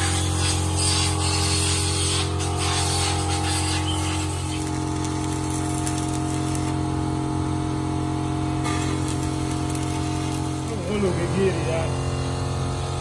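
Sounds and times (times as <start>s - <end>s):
low machine hum: 0.0s - 13.0s
welding arc crackling: 0.0s - 13.0s.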